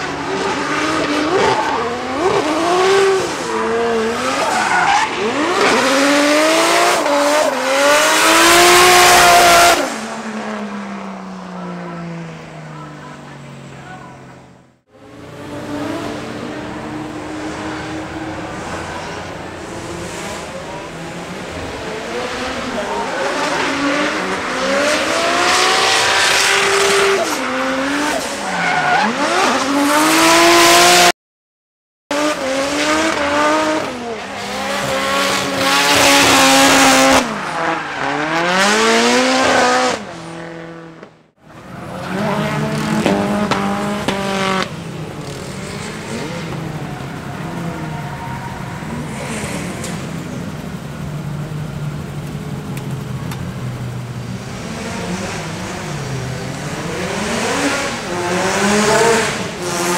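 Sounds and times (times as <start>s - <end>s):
car engines revving hard: 0.0s - 31.1s, 32.1s - 59.9s.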